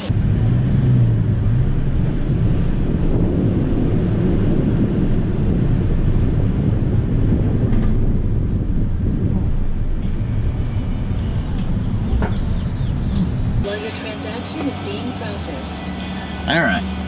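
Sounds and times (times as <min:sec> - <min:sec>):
truck moving slowly: 0:00.0 - 0:17.0
wind buffeting microphone: 0:00.1 - 0:15.4.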